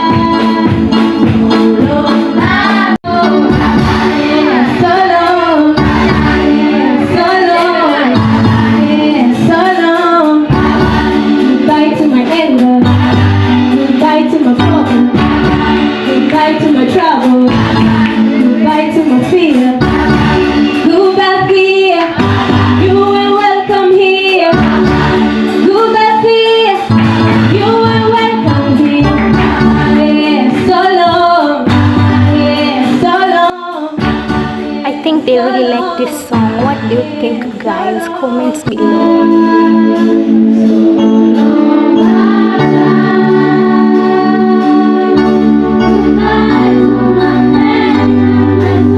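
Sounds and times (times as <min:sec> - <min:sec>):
group singing gospel song: 0:00.0 - 0:48.9.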